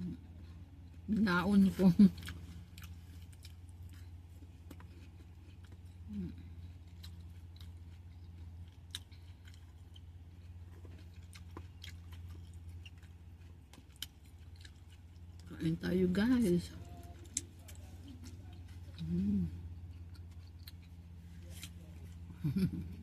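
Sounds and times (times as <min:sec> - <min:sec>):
low steady hum: 0:00.0 - 0:23.0
person chewing fruit: 0:00.1 - 0:23.0.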